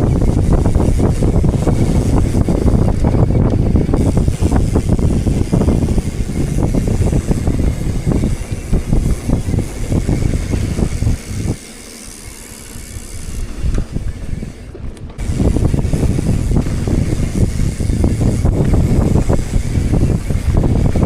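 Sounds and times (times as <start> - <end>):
low road rumble: 0.0 - 21.0
wind buffeting microphone: 0.0 - 21.0.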